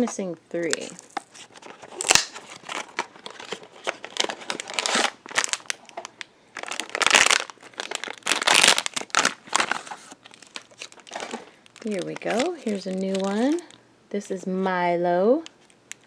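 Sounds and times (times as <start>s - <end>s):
packaging crinkling and rustling: 0.0s - 13.8s, 15.4s - 16.0s.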